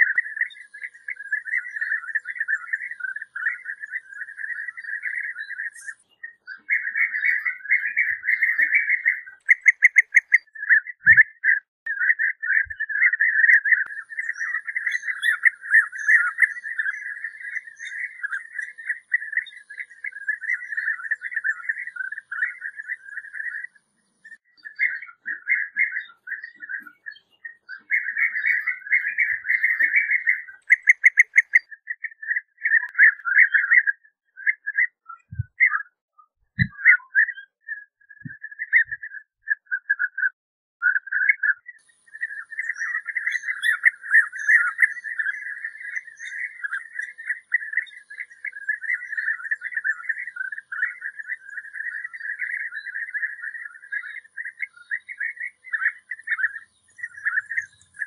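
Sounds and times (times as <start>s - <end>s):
birds chattering calls: 0.0s - 36.0s, 40.8s - 58.0s.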